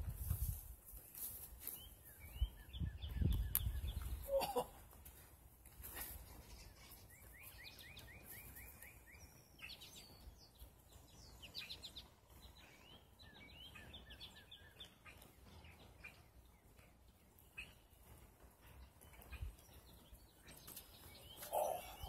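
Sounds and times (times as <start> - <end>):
songbird chirping: 0.4 - 22.0.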